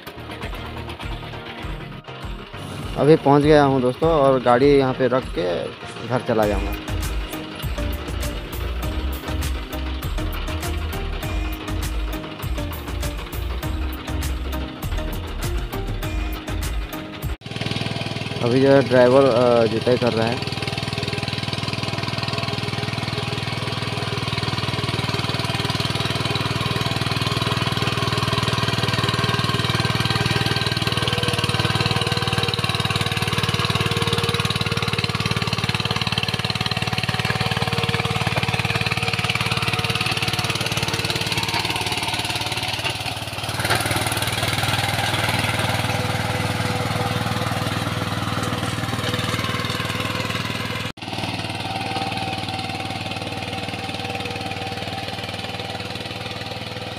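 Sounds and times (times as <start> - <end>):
diesel tiller engine under load: 0.0 - 56.9.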